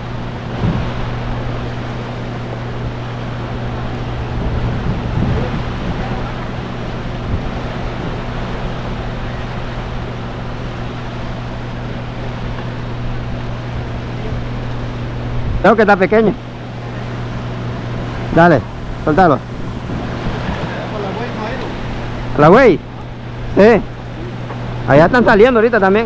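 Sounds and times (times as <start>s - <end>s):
low engine hum: 0.0s - 26.0s
water noise: 0.0s - 26.0s
wind: 0.0s - 26.0s.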